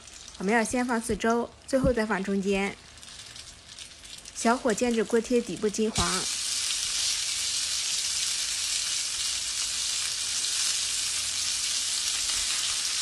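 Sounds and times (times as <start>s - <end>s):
dumplings sizzling in oil: 0.0s - 13.0s.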